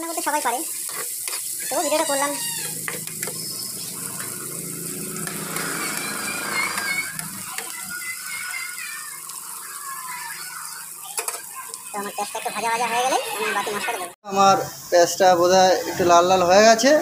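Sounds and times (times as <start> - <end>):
spatula stirring in pan: 0.0 - 14.1
onions sizzling in hot oil: 0.0 - 16.8.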